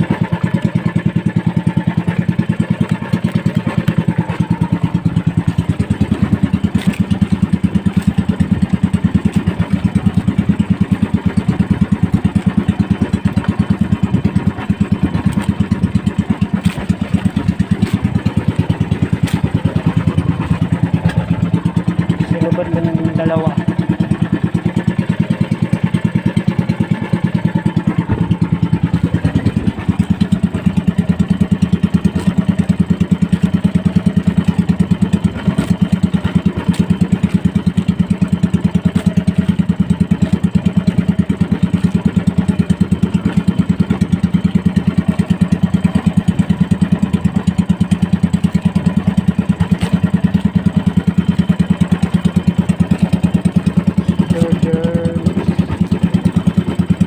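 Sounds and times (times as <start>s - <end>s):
boat engine chugging: 0.0s - 57.0s.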